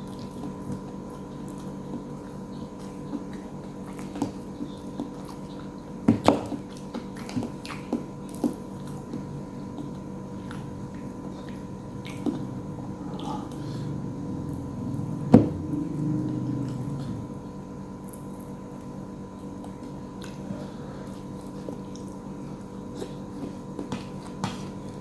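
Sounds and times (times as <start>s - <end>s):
person chewing food: 0.0s - 25.0s
steady low hum: 0.0s - 25.0s.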